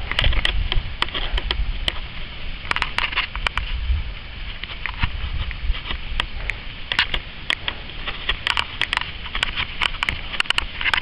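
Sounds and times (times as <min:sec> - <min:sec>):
footsteps crunching on sandy path: 0:00.0 - 0:11.0
wind on microphone: 0:00.0 - 0:11.0.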